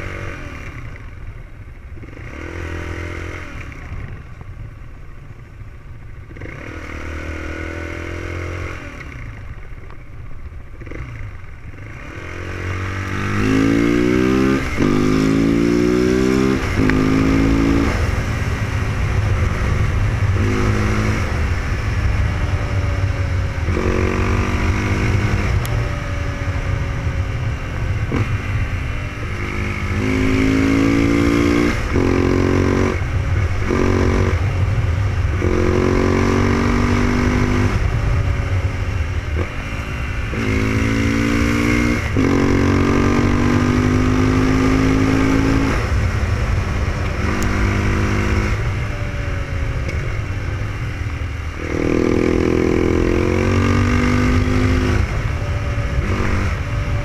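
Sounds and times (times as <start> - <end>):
motorcycle engine revving: 0.0 - 57.0
wind and road rumble: 0.0 - 57.0.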